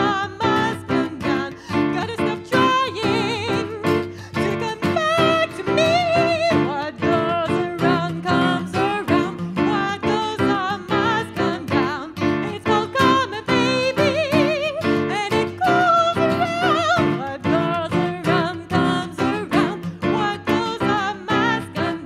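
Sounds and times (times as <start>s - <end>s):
strummed acoustic guitar: 0.0s - 22.0s
woman singing with vibrato: 0.0s - 22.0s.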